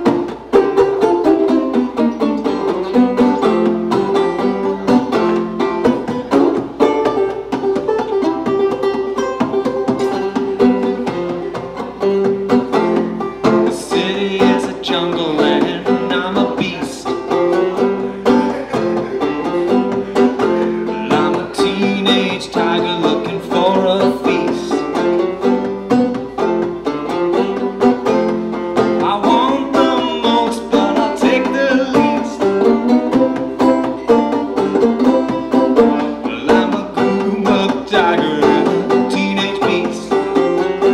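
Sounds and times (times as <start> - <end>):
banjo playing: 0.0 - 40.9.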